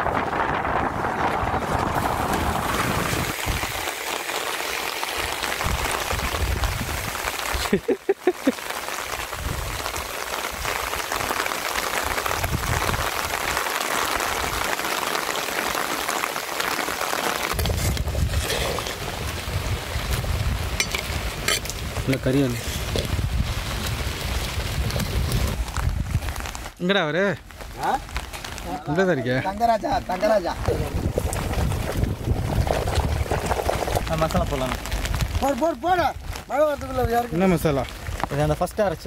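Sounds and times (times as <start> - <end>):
wind rumbling on microphone: 0.0 - 7.7, 9.0 - 14.8, 17.5 - 26.8, 29.5 - 39.0
light rain hissing: 0.0 - 39.0.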